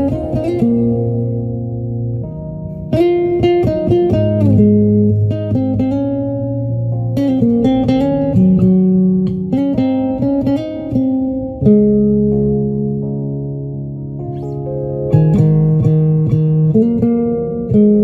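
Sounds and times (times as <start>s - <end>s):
guitar playing chords: 0.0s - 18.0s.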